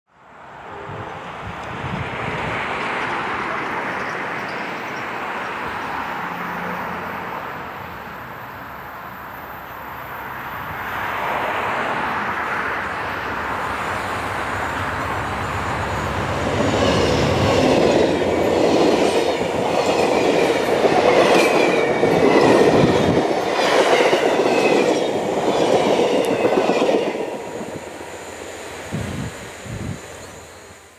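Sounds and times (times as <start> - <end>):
train passing at speed: 0.2 - 30.9
high ringing of rails: 0.3 - 30.9.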